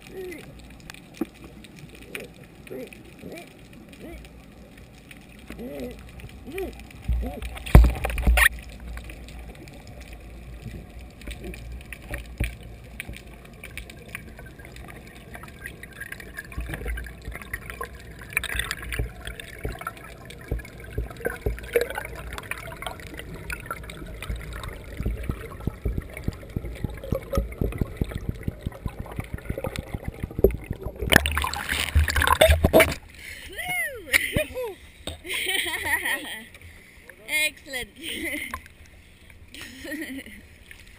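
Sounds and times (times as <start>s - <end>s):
muffled underwater rumble: 0.0s - 37.0s
underwater clicks and crackles: 0.0s - 37.2s, 38.3s - 40.9s
water splashing: 0.0s - 37.3s.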